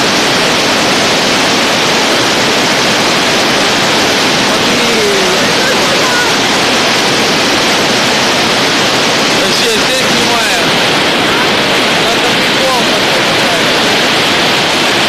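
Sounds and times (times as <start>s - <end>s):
hail and heavy rain: 0.0s - 15.0s.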